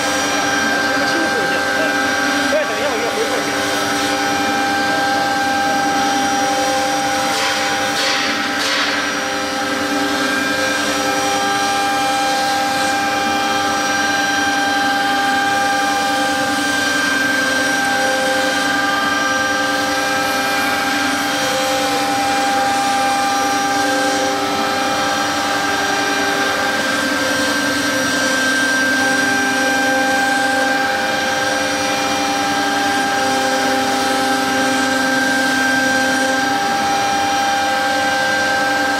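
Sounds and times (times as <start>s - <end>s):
cutting fiber board: 0.0s - 38.9s
router spindle whine: 0.0s - 38.9s.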